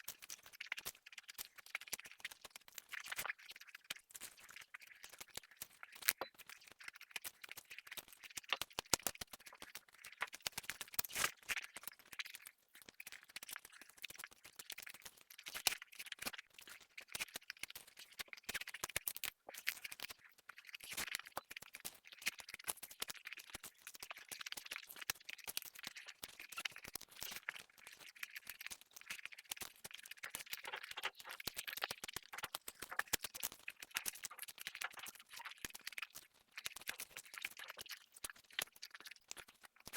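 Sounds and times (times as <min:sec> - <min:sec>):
wet chewing clicks and crackles: 0:00.0 - 0:39.9.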